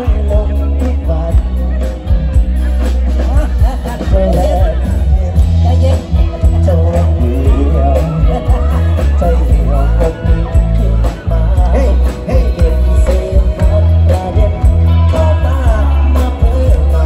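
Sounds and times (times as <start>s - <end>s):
electric guitars: 0.0s - 17.0s
heavy bass: 0.0s - 17.0s
man singing into a microphone: 0.0s - 17.0s
steady drum beat: 0.0s - 17.0s.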